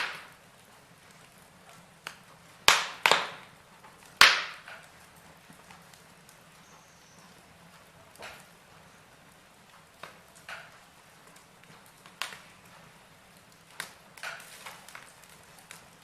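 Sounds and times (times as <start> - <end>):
wood logs crackling in fireplace: 0.0 - 16.0.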